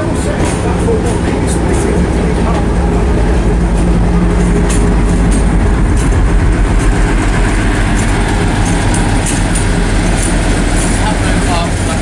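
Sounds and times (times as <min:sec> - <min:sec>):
diesel locomotive engine drone: 0:00.0 - 0:12.0
wheels clicking on track: 0:00.0 - 0:12.0.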